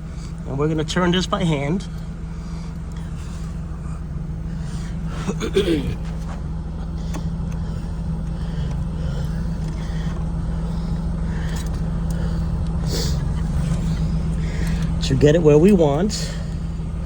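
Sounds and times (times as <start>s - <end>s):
car engines idling: 0.0s - 17.0s.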